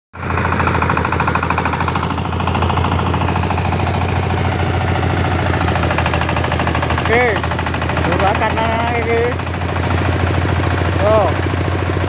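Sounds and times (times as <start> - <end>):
rice thresher engine running: 0.2 - 12.0.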